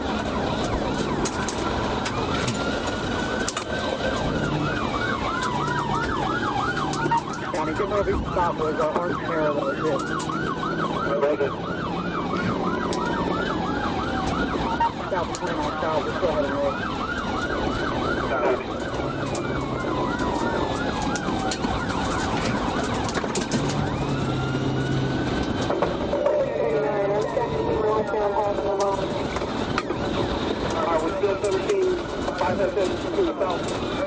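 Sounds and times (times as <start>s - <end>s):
car engine and road noise: 0.0s - 34.0s
faint higher siren: 0.0s - 34.0s
police siren yelp and wail: 0.0s - 34.0s.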